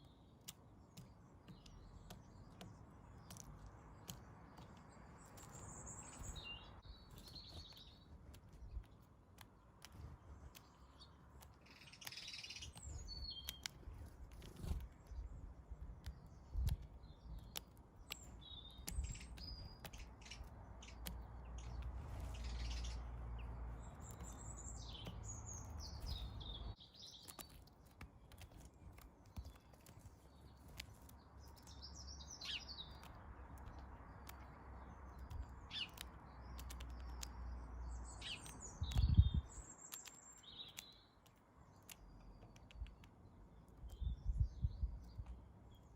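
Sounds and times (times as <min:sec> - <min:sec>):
faint clicks: 0:00.0 - 0:06.5, 0:07.1 - 0:44.2
birds chirping: 0:00.0 - 0:45.9.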